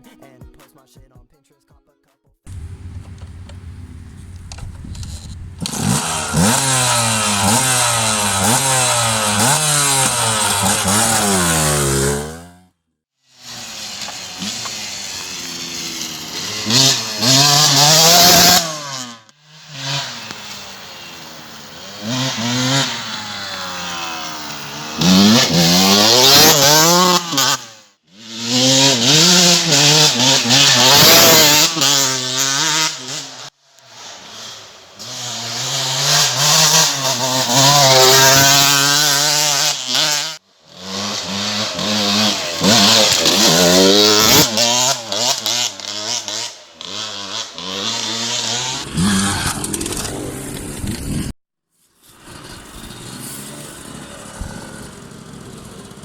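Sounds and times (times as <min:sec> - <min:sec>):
two-stroke engine revving hard: 0:02.5 - 0:51.4, 0:52.3 - 0:56.0.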